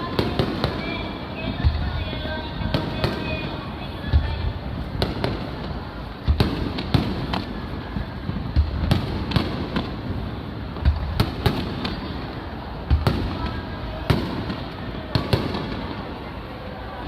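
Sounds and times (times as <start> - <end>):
fireworks booming: 0.0 - 16.5.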